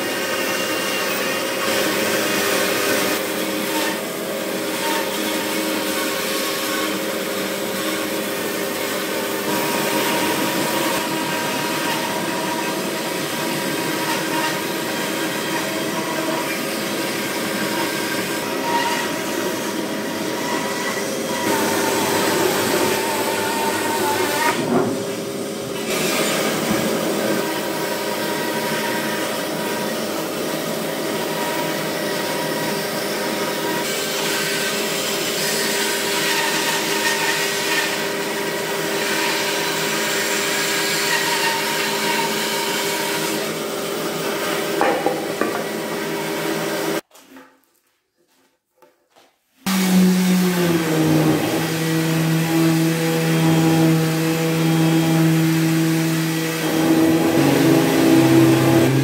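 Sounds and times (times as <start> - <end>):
bandsaw cutting wood: 0.0 - 47.0, 49.6 - 59.0.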